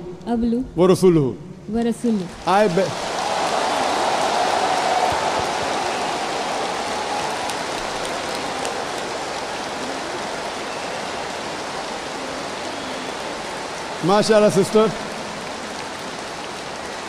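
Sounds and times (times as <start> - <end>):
large audience applauding: 2.4 - 17.0.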